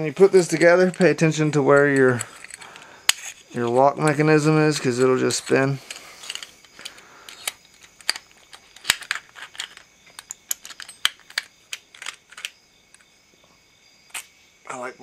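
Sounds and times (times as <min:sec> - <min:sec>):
metal door knob parts clicking: 0:00.4 - 0:13.1.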